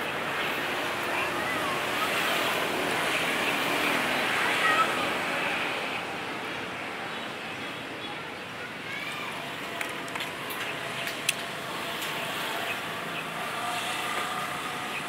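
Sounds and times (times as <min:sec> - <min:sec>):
faint voices: 0:00.0 - 0:15.0
passing traffic: 0:00.0 - 0:15.0.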